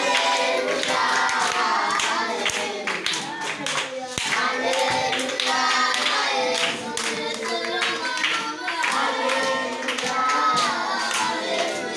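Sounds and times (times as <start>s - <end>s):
children singing together: 0.0s - 11.9s
hand clapping: 0.0s - 11.9s.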